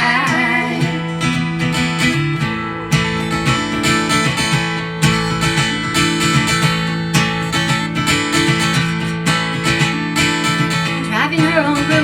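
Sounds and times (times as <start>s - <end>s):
acoustic guitar strumming: 0.0s - 12.0s
country-rock instrumental music: 0.0s - 12.0s.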